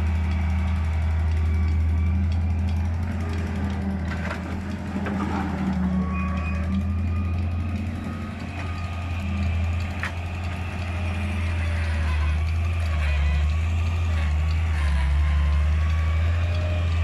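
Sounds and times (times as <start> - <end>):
diesel engines droning: 0.0 - 17.0
excavator digging soil: 0.0 - 17.0.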